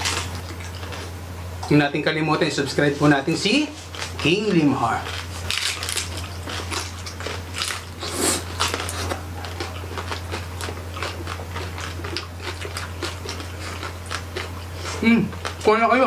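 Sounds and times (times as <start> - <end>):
crunchy chewing: 0.0 - 1.2, 3.3 - 16.0.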